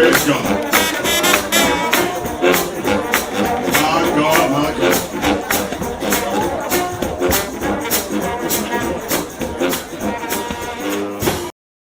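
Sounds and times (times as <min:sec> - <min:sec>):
driving percussive beat: 0:00.0 - 0:11.5
trombone-led gospel band: 0:00.0 - 0:11.5.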